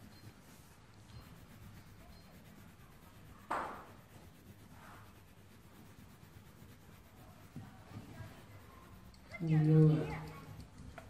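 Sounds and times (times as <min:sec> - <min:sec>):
pencil scratching on paper: 0:00.0 - 0:11.0.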